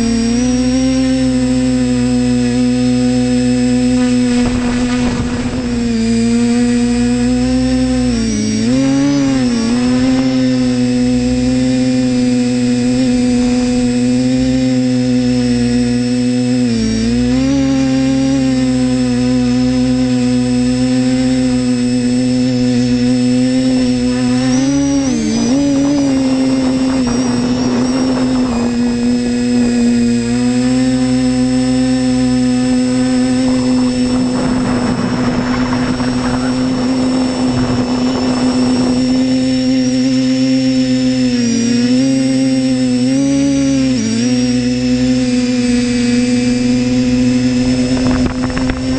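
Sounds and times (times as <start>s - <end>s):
drone motors and propellers whining: 0.0s - 48.9s.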